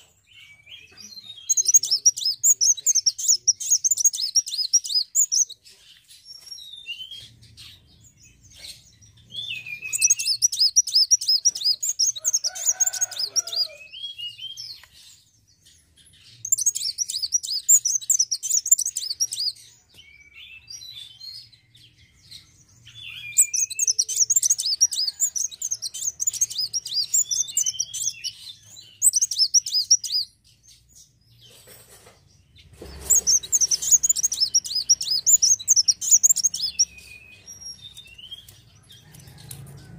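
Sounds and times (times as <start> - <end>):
bird twittering chirps: 0.0 - 31.2, 32.4 - 39.5.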